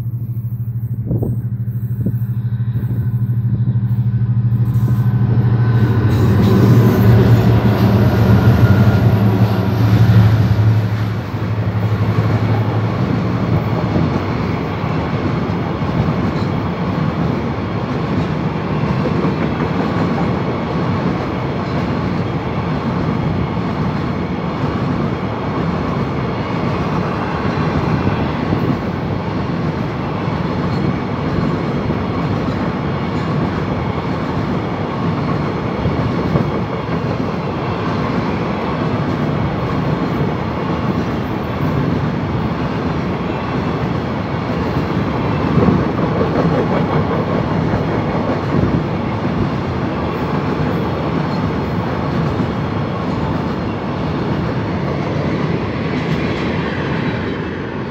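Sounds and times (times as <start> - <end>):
diesel locomotive engine drone: 0.0 - 57.9
train wheels rumbling and clacking: 0.0 - 57.9.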